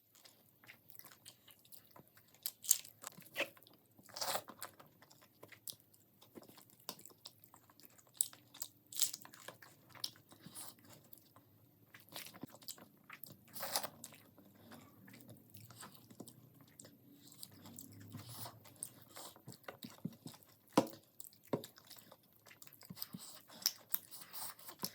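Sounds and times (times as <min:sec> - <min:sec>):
soft chewing: 0:00.0 - 0:24.9.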